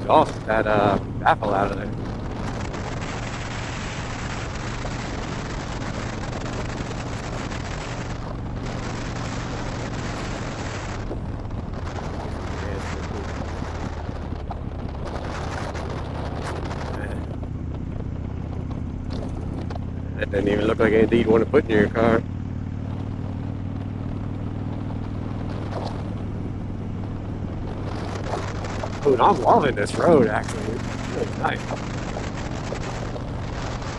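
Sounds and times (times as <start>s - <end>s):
motorcycle engine cruising: 0.0s - 33.9s
wind rushing over microphone: 0.0s - 33.9s.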